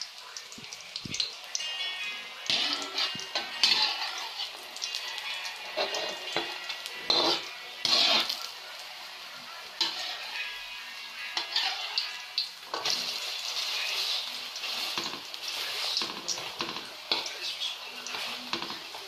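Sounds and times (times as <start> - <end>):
patties sizzling in oil: 0.0 - 19.0
metal spatula scraping pan: 1.9 - 8.5, 9.8 - 19.0.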